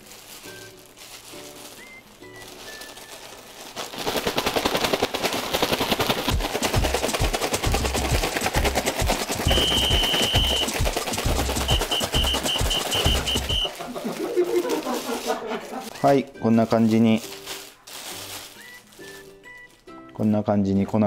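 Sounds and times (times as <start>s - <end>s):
plastic bag rustling rattle: 0.0s - 20.0s.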